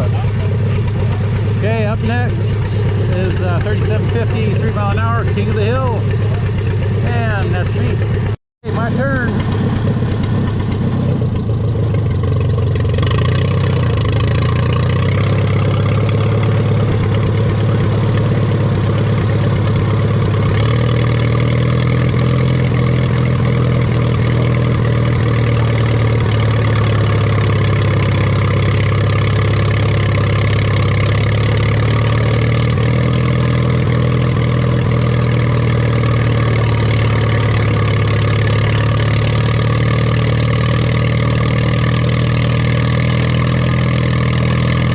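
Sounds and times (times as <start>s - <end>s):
tractor engine under load: 0.0s - 44.9s.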